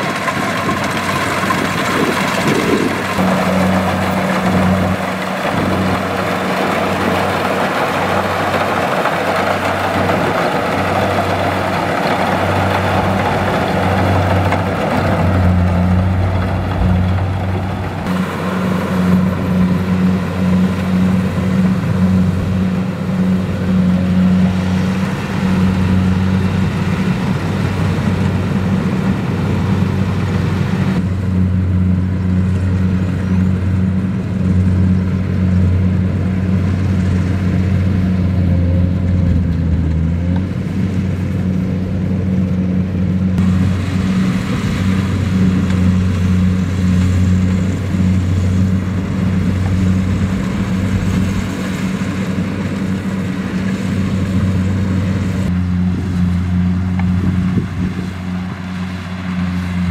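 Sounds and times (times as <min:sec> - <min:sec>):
diesel engine low hum: 0:00.0 - 0:59.9
harvester mechanical noise: 0:00.0 - 0:59.9.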